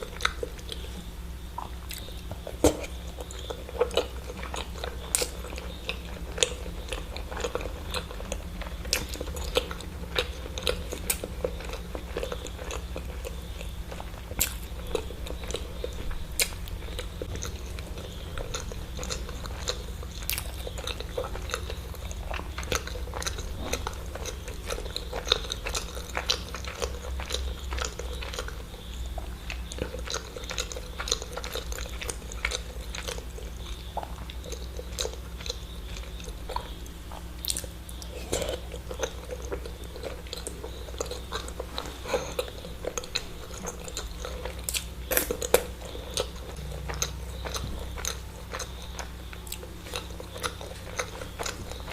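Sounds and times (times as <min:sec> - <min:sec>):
person chewing: 0:00.0 - 0:51.9
steady low hum: 0:00.0 - 0:51.9.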